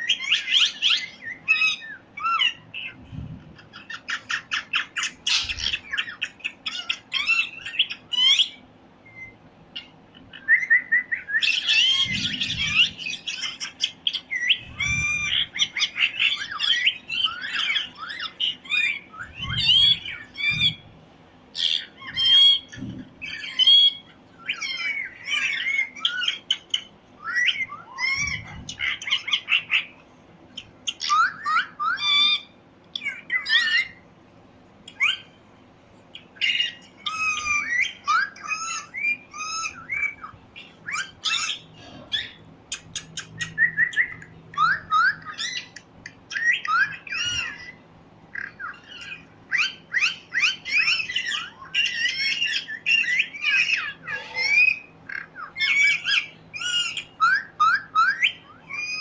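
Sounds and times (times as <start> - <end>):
parrot chirping and squawking: 0.0 - 34.1, 34.8 - 59.0.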